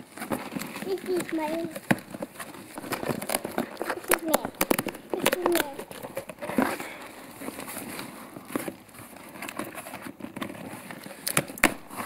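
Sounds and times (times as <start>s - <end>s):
bubble wrap rustling and crinkling: 0.0s - 12.0s.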